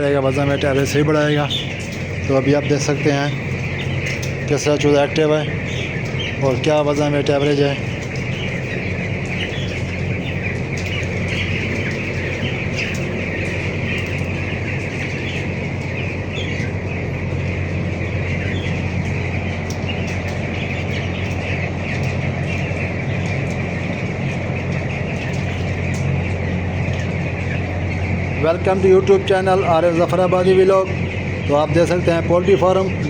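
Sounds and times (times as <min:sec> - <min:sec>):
chicks peeping: 0:00.0 - 0:33.0
shed fan humming: 0:00.0 - 0:33.0.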